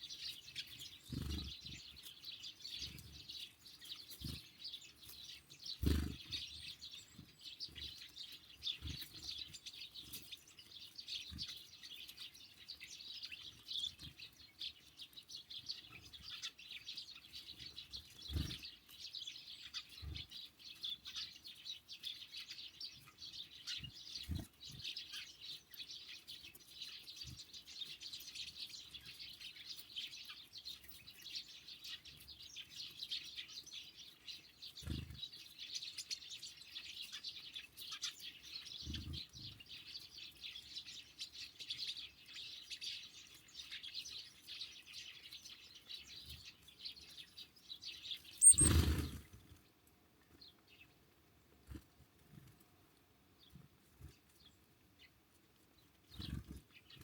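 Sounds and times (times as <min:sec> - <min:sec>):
birds chirping and twittering: 0:00.0 - 0:57.0.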